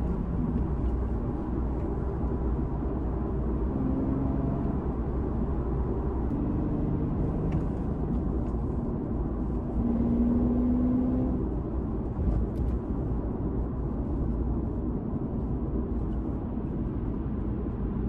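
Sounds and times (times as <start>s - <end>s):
car engine deep low rumble: 0.0s - 18.0s.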